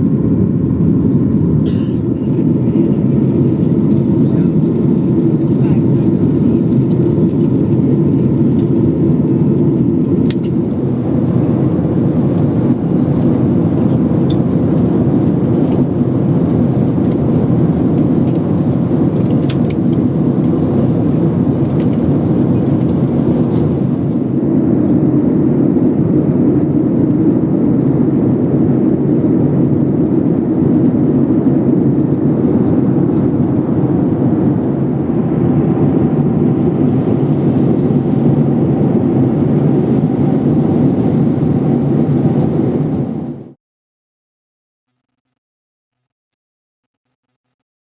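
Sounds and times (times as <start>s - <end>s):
airliner cabin engine rumble: 0.0s - 43.6s.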